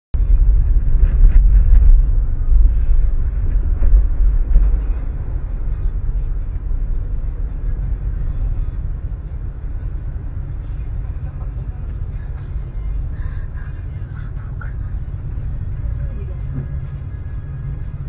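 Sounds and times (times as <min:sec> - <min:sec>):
car engine rumble: 0:00.2 - 0:18.0
road noise: 0:00.2 - 0:18.0.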